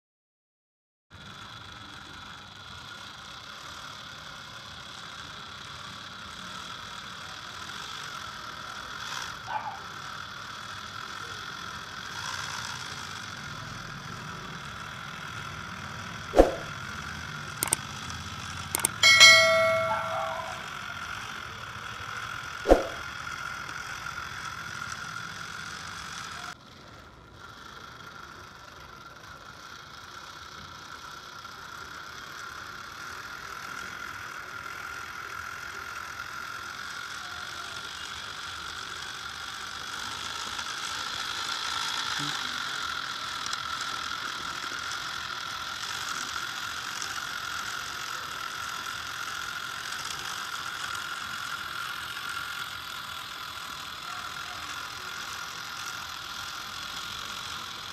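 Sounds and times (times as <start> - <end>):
small electric motor gear whine: 1.1 - 57.9.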